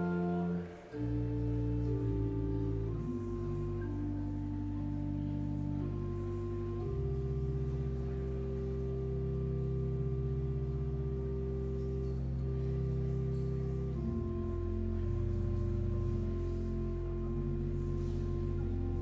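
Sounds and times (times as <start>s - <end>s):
church organ chords: 0.0s - 19.0s.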